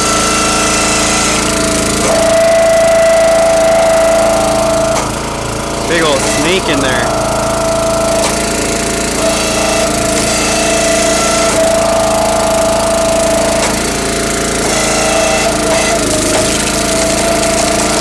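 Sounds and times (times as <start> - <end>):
small gas engine running: 0.0 - 18.0.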